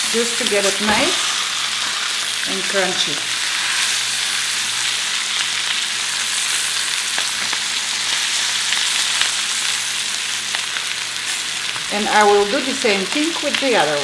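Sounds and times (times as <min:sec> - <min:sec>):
steaks sizzling in frying pan: 0:00.0 - 0:14.0.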